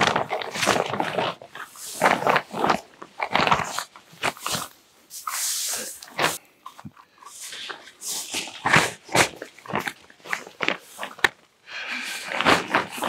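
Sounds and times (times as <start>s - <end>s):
tent fabric rustling and crinkling: 0.0s - 13.0s.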